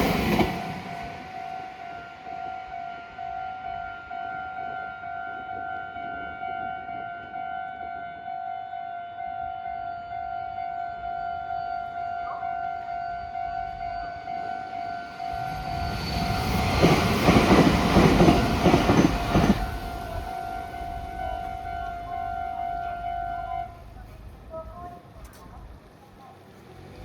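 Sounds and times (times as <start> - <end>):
train rumble and wheel clatter: 0.0 - 7.9, 11.0 - 27.0
level-crossing alarm bell: 0.0 - 23.7.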